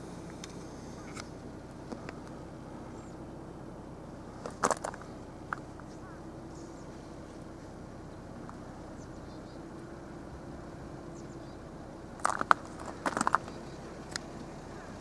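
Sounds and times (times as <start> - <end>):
car engine and cabin hum: 0.0 - 15.0.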